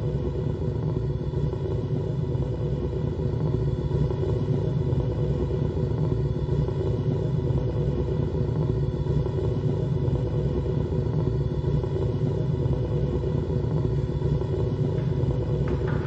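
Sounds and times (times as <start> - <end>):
low rumbling electronic drone: 0.0 - 16.0.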